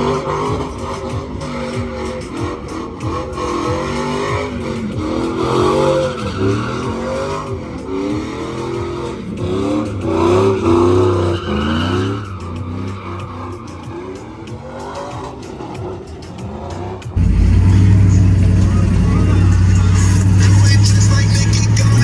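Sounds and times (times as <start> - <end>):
truck engine revving: 0.0 - 22.0
tyres squealing: 0.0 - 22.0.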